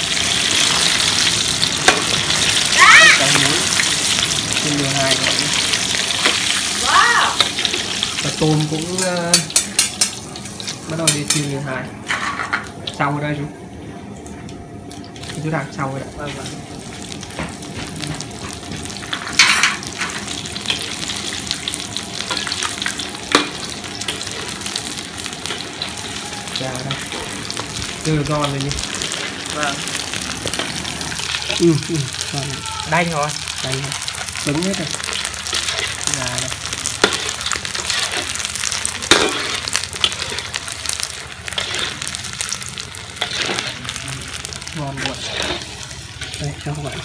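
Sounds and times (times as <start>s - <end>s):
deep-frying sizzle in oil: 0.0s - 47.0s.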